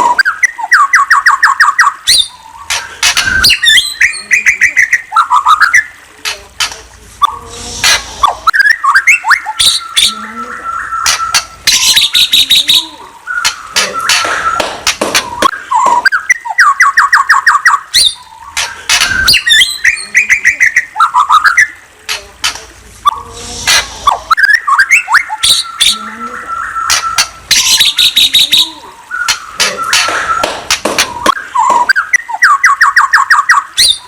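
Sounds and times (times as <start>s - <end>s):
bird chirping and singing: 0.0s - 6.0s, 7.2s - 21.8s, 22.4s - 34.0s.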